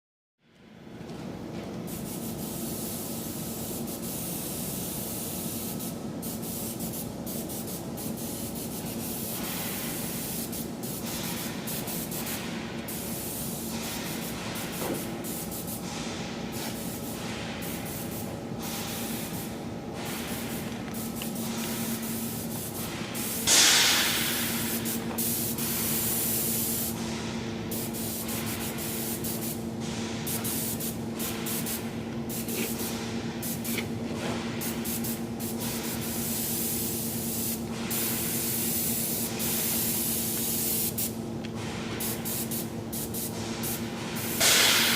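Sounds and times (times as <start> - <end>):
spray gun hissing: 1.9 - 33.9, 34.5 - 41.2, 41.8 - 44.9.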